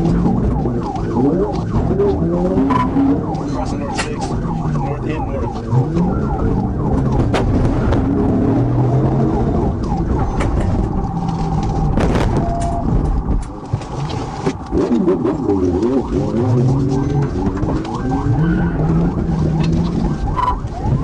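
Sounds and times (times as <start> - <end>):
car engine and road noise: 0.0 - 21.0
police siren wailing: 0.0 - 21.0.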